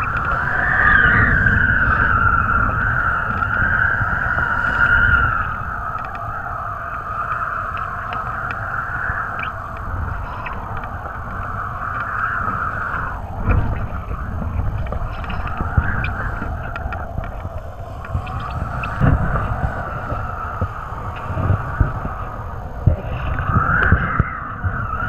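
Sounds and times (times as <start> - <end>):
steady wavering whine: 0.0 - 25.0
wind rushing over microphone: 0.0 - 25.0.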